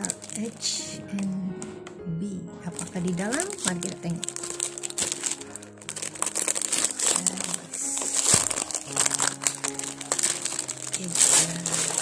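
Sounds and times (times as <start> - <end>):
plastic wrapping crinkling: 0.0 - 1.9, 2.6 - 12.0
background music: 0.0 - 12.0.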